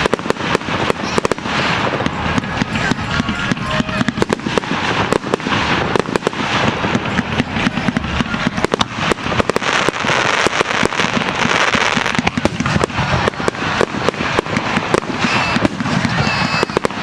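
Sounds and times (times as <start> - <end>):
fireworks popping and banging: 0.0 - 17.0.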